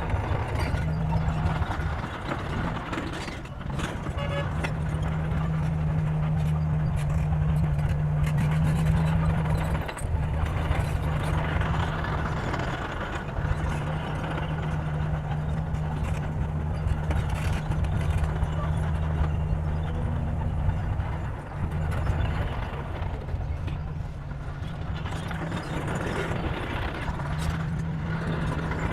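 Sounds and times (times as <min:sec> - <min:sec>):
diesel engine under load: 0:00.0 - 0:28.9.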